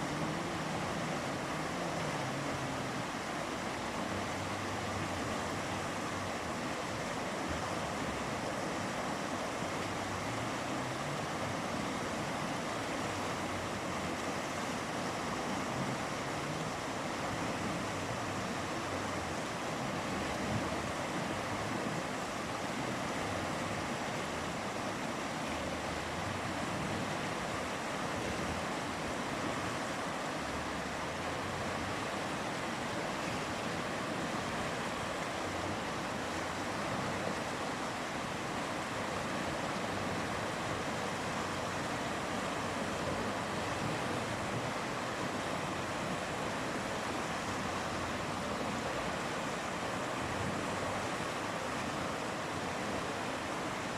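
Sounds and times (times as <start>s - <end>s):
mountain river flowing: 0.0s - 53.9s.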